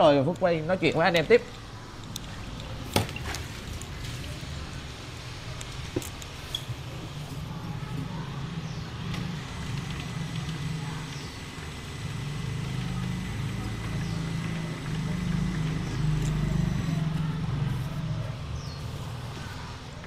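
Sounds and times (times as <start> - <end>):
uneven motor rumble: 1.2 - 20.0.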